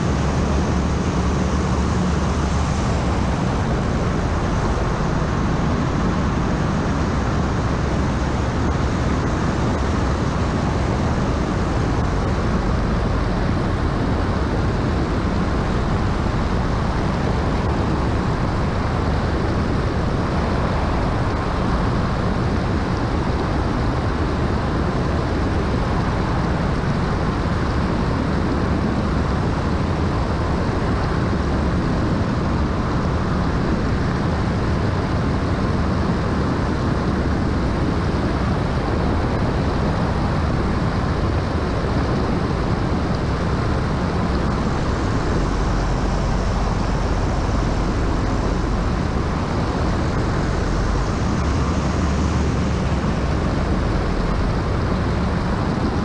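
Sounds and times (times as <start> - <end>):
engine and propeller drone: 0.0 - 56.0
wind rushing over microphone: 0.0 - 56.0.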